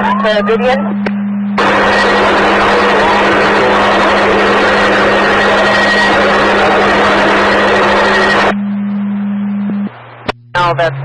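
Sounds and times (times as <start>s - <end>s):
constant low hum: 0.0s - 11.0s
radio static hiss: 0.0s - 11.0s.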